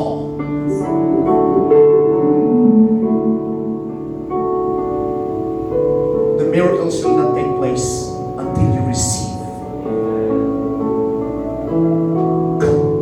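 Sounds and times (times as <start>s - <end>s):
keyboard playing piano chords: 0.0s - 13.0s.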